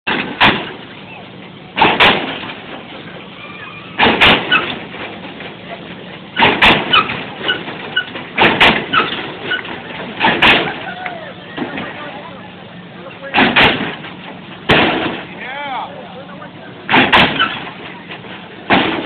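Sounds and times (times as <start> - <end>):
car suspension slamming and clunking: 0.1 - 12.2, 13.1 - 15.4, 16.8 - 19.0
crowd voices: 0.6 - 19.0.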